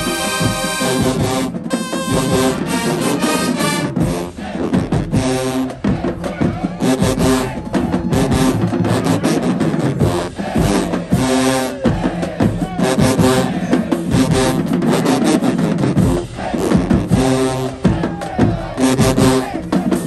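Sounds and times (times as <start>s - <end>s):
brass chords: 0.0s - 20.0s
sharp percussion hits: 0.0s - 20.0s.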